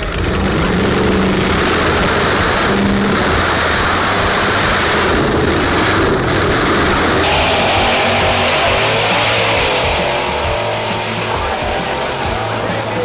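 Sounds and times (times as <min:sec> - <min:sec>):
drag car engines roaring: 0:00.0 - 0:13.0.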